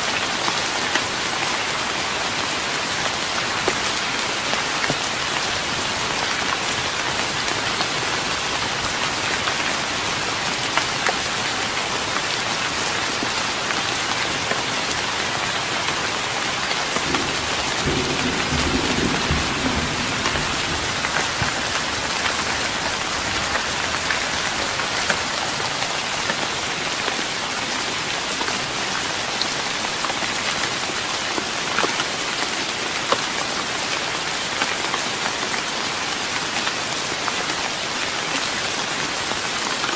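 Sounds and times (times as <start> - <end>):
rain pattering on wooden deck: 0.0 - 39.9.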